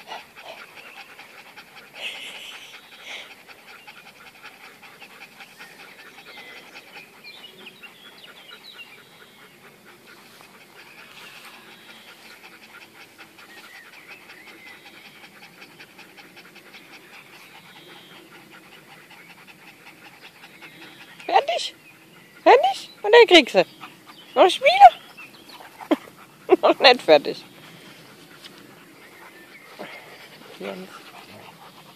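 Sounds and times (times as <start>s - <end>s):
dogs panting: 0.0s - 31.9s.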